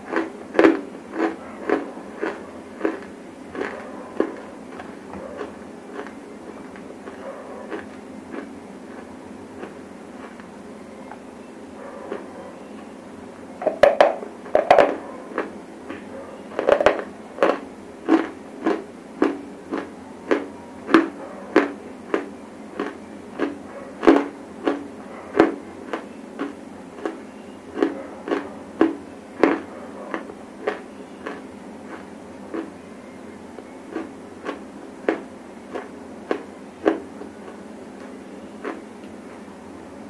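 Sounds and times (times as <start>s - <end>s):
dry clay crunching while chewed: 0.0s - 11.2s, 13.6s - 39.4s.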